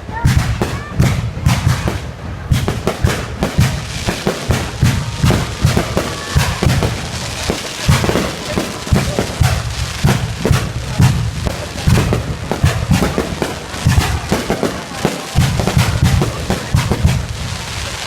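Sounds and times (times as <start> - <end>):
fireworks bangs and booms: 0.0 - 18.0
fireworks whistling: 0.0 - 18.0.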